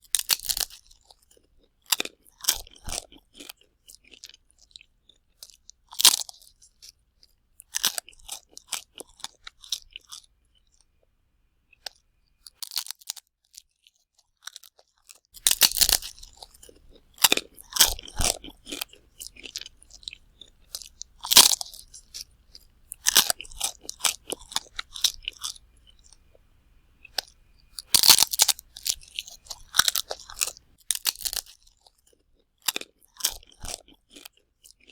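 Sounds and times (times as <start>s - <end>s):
person chewing crunchy food: 0.0s - 10.9s, 11.7s - 34.9s.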